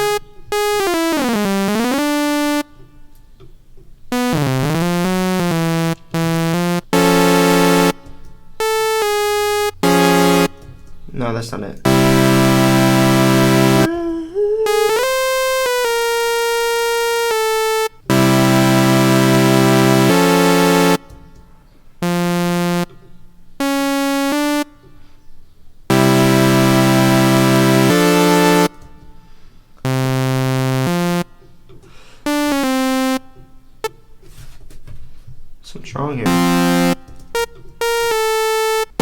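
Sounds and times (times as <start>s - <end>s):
synthesizer chords and notes: 0.0s - 3.1s, 4.1s - 10.9s, 11.8s - 14.0s, 14.6s - 25.0s, 25.9s - 31.4s, 32.3s - 34.1s, 36.3s - 39.0s.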